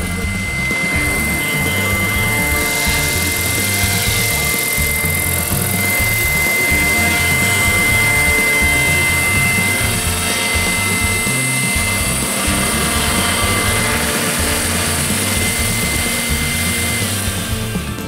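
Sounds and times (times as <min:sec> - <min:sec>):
model helicopter rotor whine: 0:00.0 - 0:18.0
music: 0:00.0 - 0:18.0.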